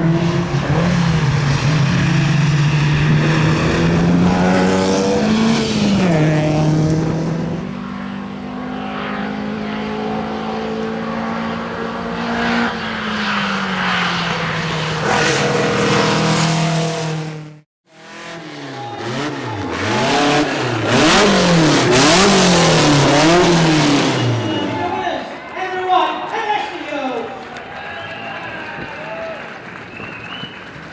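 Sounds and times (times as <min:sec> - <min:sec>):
car engine revving: 0:00.0 - 0:25.1
gear changes: 0:00.0 - 0:25.3.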